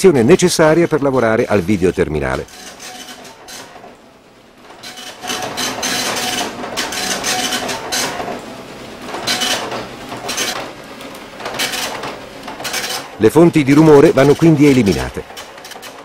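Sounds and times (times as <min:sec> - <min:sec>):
dot-matrix printer printing: 0:00.2 - 0:16.0.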